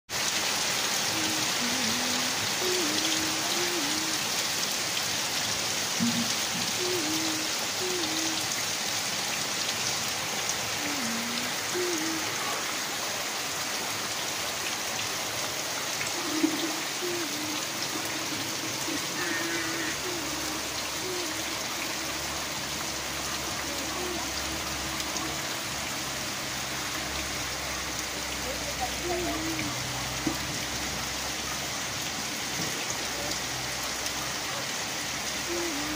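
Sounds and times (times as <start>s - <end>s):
heavy rain falling on roofs: 0.1s - 35.9s.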